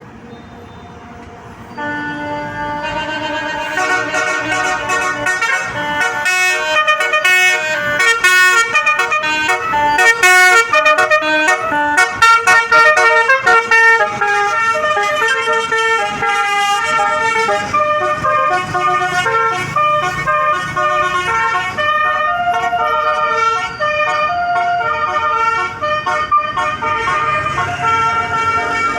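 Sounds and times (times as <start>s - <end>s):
bus multi-tone horn melody: 0.3s - 28.9s.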